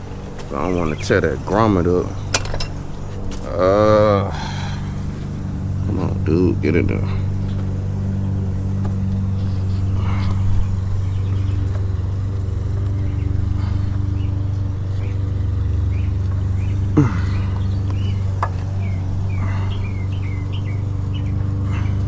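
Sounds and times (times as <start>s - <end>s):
birds chirping: 0.0s - 22.0s
motor humming: 0.0s - 22.0s.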